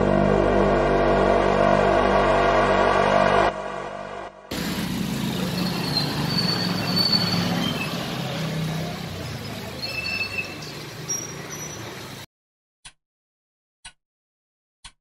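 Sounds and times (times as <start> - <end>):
low rumble of traffic: 0.0 - 12.3.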